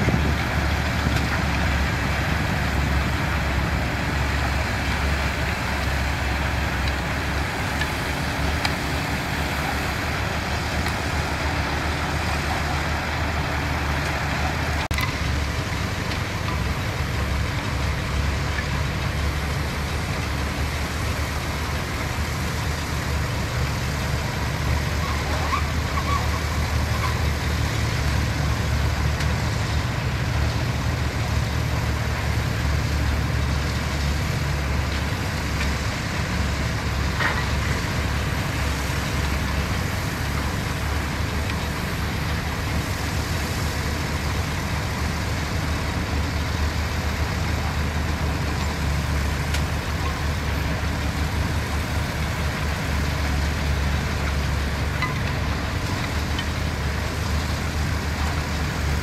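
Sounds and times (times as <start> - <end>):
heavy machinery engines humming: 0.0 - 59.0.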